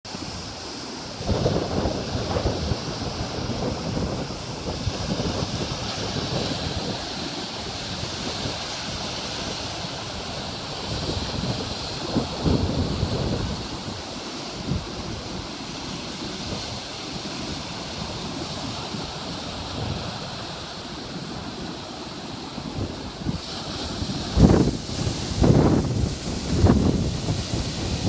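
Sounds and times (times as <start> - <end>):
sea waves washing onto beach: 0.1 - 28.0
wind buffeting microphone: 0.1 - 28.0.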